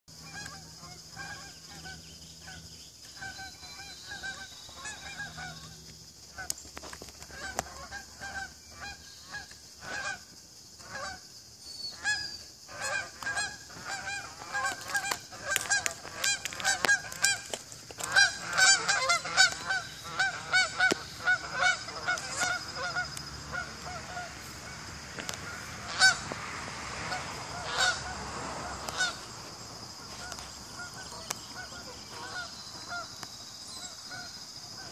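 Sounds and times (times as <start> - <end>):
geese honking: 0.2 - 11.2, 11.9 - 33.2.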